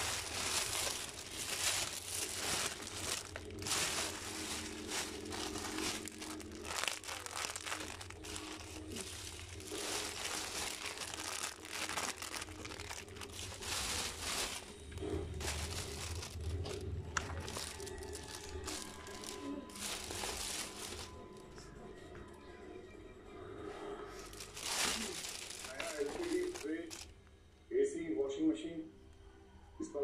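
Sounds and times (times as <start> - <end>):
plastic bag crinkling: 0.0 - 21.5, 24.3 - 27.2.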